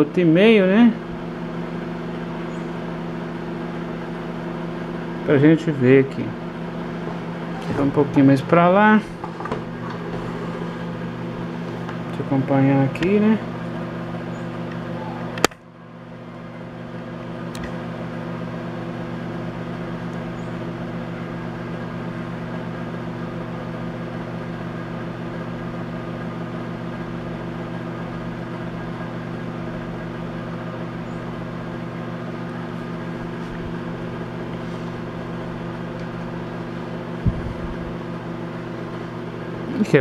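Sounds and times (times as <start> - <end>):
microwave oven humming: 0.0 - 40.0.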